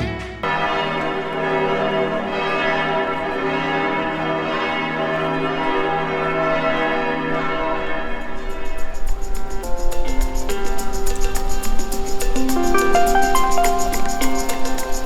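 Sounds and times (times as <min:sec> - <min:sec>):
bells ringing: 0:00.4 - 0:15.0.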